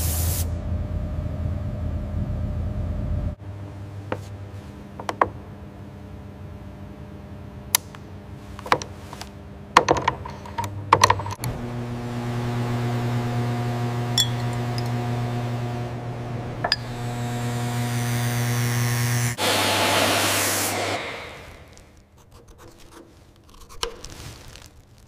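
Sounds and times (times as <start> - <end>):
steady machine hum: 0.1 - 22.0.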